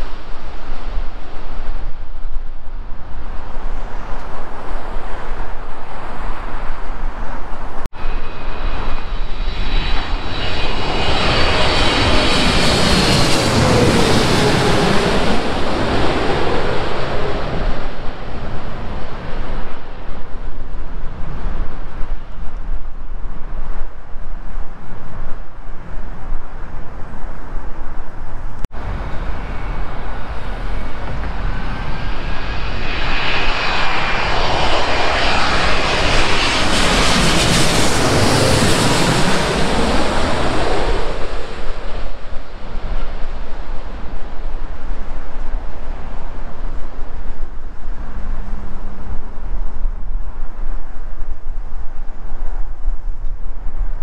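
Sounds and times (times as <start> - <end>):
jet engine whine passing overhead: 0.0 - 52.4
airliner approaching overhead: 0.0 - 54.0
wind rumble on microphone: 0.0 - 54.0.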